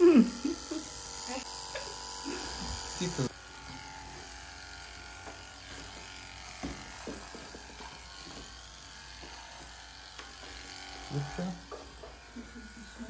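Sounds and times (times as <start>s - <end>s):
electric clippers humming: 0.0s - 13.0s.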